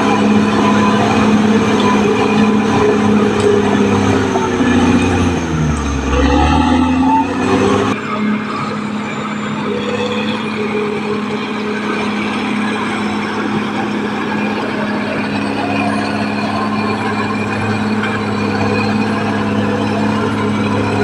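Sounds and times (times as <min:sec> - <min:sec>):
bulldozer diesel engine: 0:00.0 - 0:21.0.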